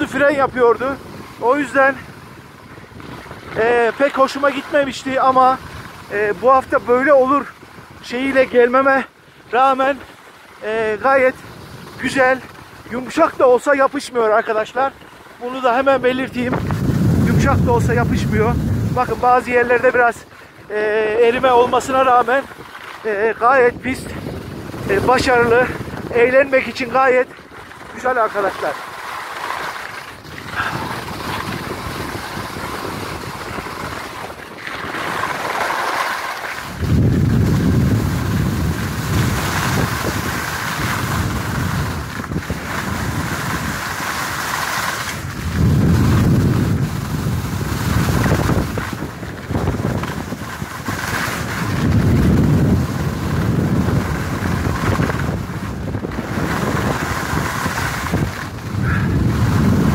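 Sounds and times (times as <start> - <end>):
skis sliding on snow: 0.0 - 59.9
wind buffeting microphone: 0.0 - 59.9.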